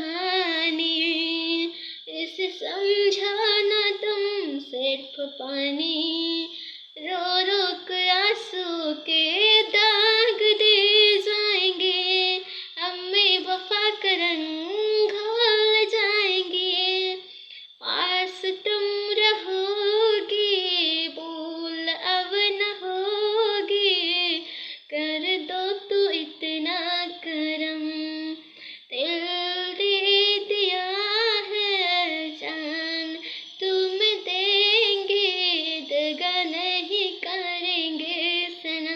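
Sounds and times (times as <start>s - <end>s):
boy singing unaccompanied: 0.0s - 38.9s.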